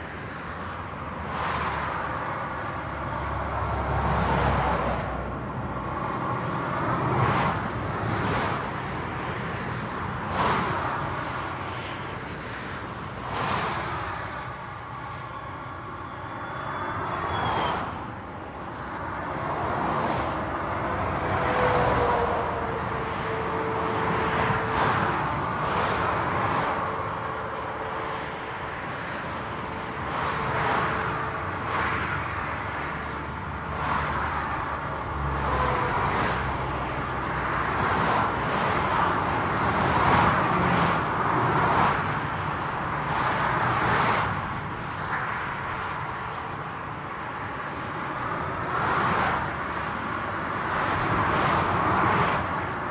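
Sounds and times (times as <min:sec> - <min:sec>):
highway traffic passing: 0:00.0 - 0:52.9.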